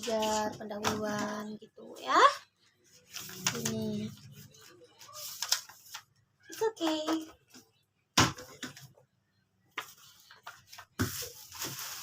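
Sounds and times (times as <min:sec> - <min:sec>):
books and packaging rustling: 0:00.0 - 0:09.0, 0:09.6 - 0:12.0.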